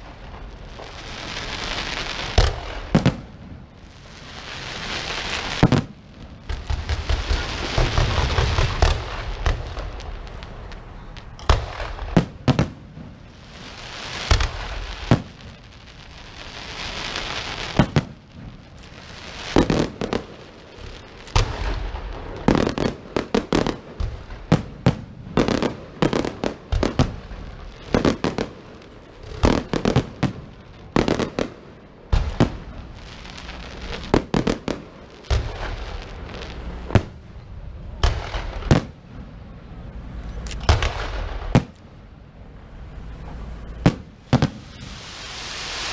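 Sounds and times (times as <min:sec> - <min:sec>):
fireworks bangs and cracks: 0:00.0 - 0:45.9
fireworks rushing hiss: 0:00.0 - 0:45.9.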